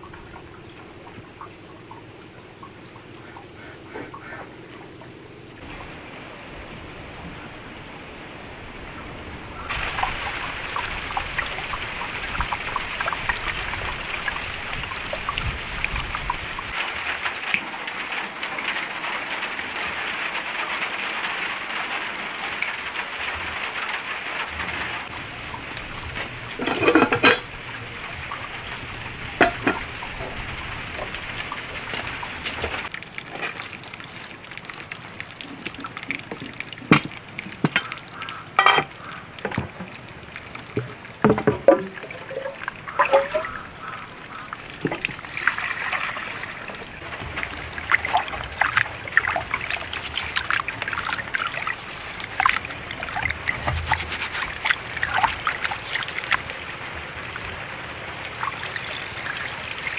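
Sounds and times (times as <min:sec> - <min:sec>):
steady watery hiss: 0:00.0 - 0:59.9.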